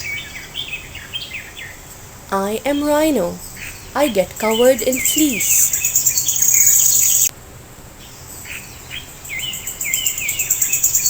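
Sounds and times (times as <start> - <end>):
birds chirping: 0.0 - 7.3, 8.0 - 11.0.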